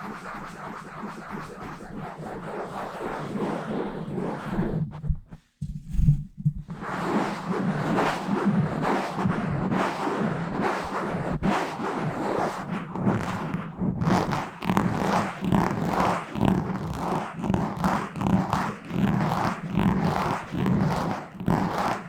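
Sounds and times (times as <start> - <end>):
scratching on a microphone: 0.0 - 22.0.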